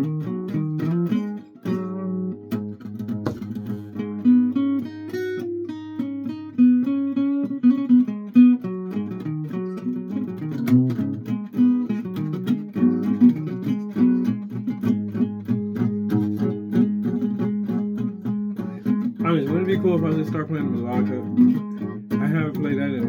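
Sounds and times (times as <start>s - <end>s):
guitar plucked notes: 0.0s - 23.0s.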